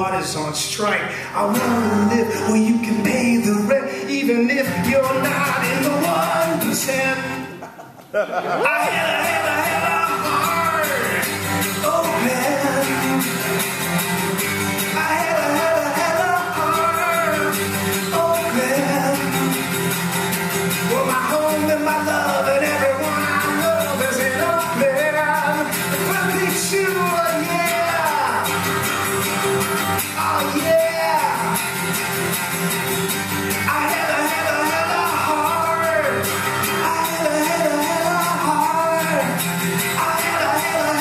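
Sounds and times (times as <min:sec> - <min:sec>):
man singing: 0:00.0 - 0:28.9, 0:29.8 - 0:32.0, 0:33.4 - 0:41.0
strummed acoustic guitar: 0:00.0 - 0:41.0.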